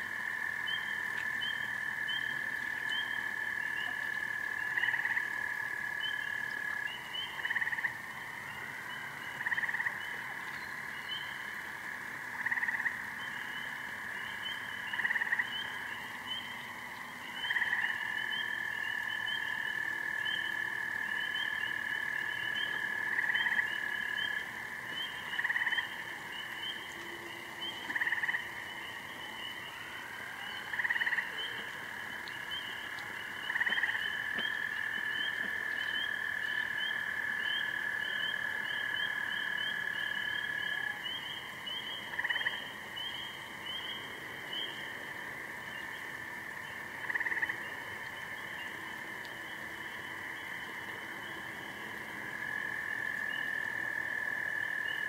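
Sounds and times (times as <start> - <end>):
long steady frog trill: 0.0 - 55.0
loud single frog calls: 0.0 - 55.0.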